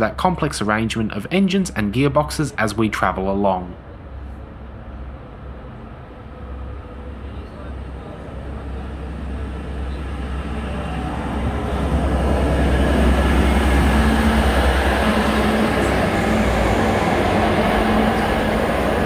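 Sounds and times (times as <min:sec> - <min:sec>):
diesel railcar engine drone: 0:00.0 - 0:19.0.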